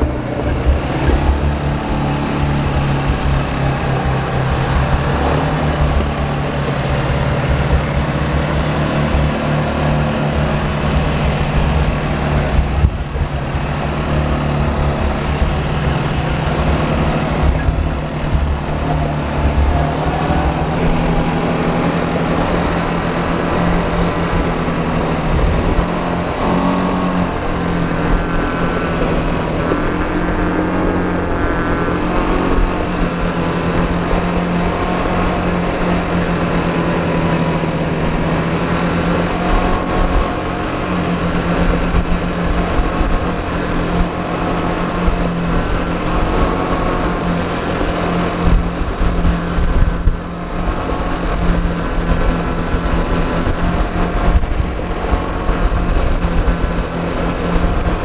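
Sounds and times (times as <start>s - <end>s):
quad bike engine running: 0.0s - 58.0s
wind rumble on microphone: 0.0s - 58.0s.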